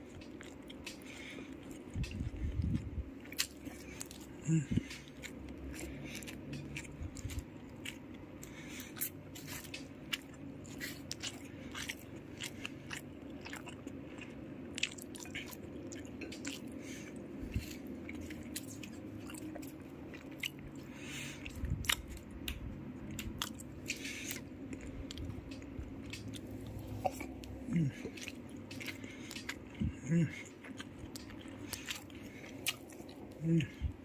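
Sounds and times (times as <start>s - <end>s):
chewing and mouth sounds: 0.0s - 34.0s
steady low hum: 0.0s - 34.0s.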